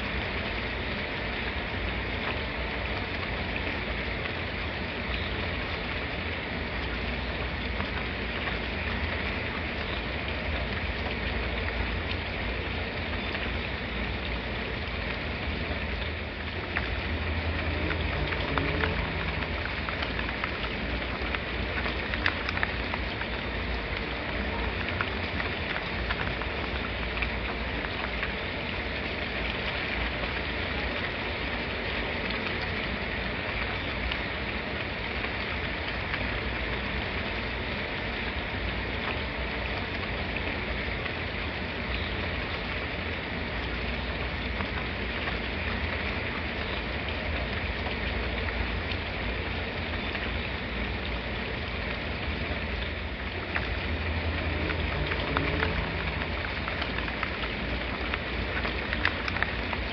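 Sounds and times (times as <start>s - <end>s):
raindrop ticks: 0.0s - 59.9s
steady rain falling: 0.0s - 59.9s.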